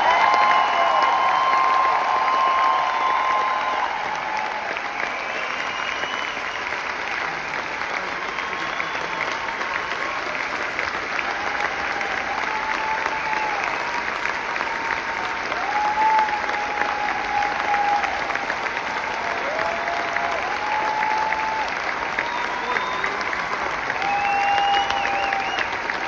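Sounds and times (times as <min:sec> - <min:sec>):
audience applauding: 0:00.0 - 0:26.0
individual cheers: 0:00.0 - 0:26.0.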